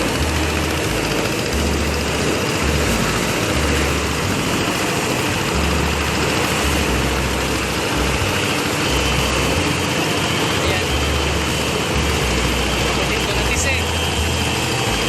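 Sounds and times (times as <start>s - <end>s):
engine running: 0.0s - 15.0s
loud rushing noise: 0.0s - 15.0s
pulsing low hum: 0.0s - 15.0s.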